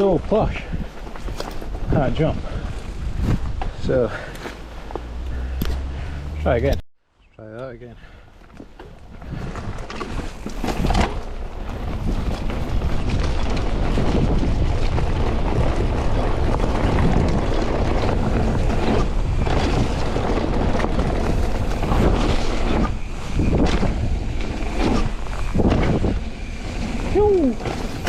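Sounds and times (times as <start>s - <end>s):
tyres rolling on dirt: 0.0s - 6.7s, 8.4s - 28.0s
wind buffeting microphone: 0.0s - 6.8s, 8.0s - 28.0s.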